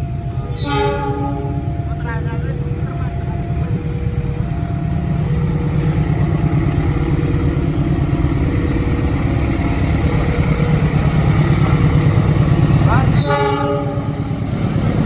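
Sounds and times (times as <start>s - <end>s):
train engine rumble: 0.0s - 15.0s.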